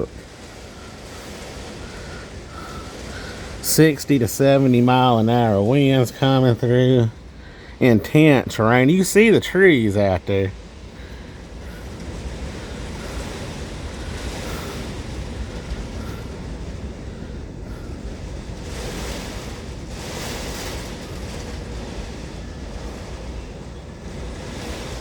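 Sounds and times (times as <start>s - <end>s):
heavy rain: 0.0s - 25.0s
strong wind gusts: 0.0s - 25.0s
wind buffeting microphone: 0.0s - 25.0s.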